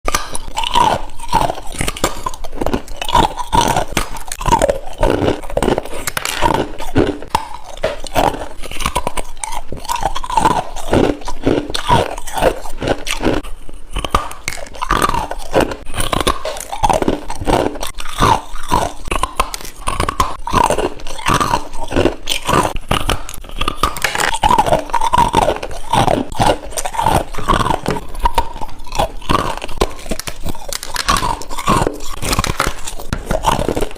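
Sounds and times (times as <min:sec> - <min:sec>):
person chewing ice: 0:00.0 - 0:33.9.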